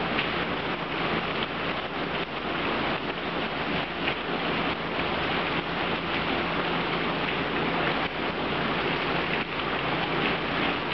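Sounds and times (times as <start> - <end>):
heavy rain on wet ground: 0.0 - 10.9.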